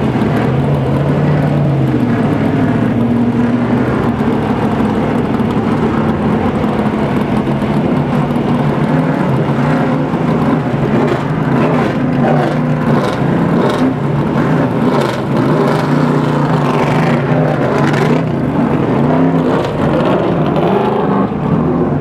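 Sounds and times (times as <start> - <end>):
race car engines idling and revving: 0.0 - 22.0.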